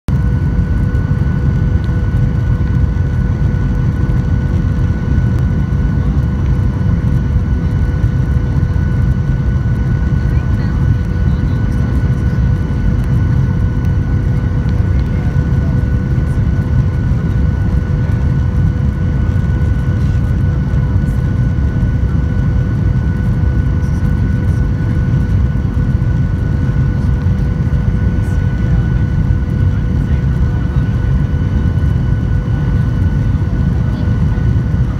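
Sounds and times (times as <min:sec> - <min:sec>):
low rumble of jet engines: 0:00.0 - 0:34.9
faint steady whine: 0:00.1 - 0:34.9.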